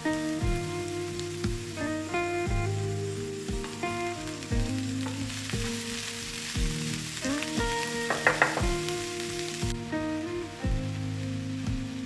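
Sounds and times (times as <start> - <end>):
guitar music: 0.0 - 12.0
vegetables sizzling in a frying pan: 0.0 - 12.0.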